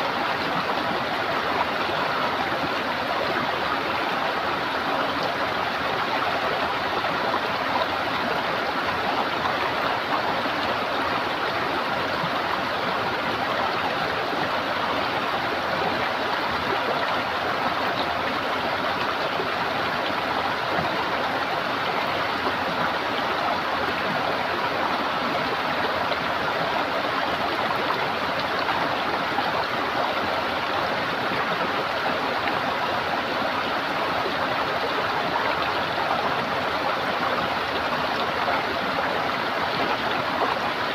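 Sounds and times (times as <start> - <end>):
running water gurgling: 0.0 - 40.9.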